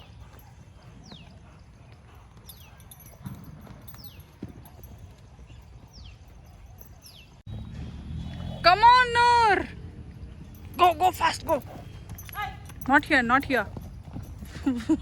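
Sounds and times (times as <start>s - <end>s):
horse hoofbeats on soft ground: 0.0s - 15.0s.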